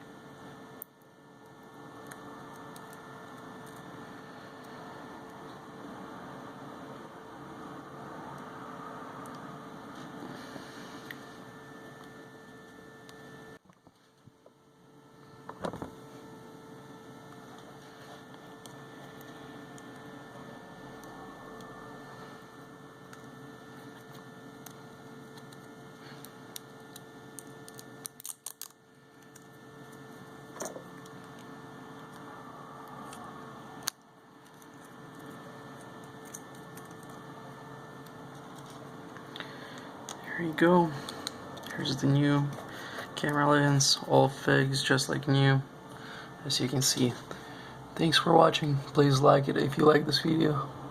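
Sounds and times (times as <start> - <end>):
electrical hum: 0.0 - 50.9.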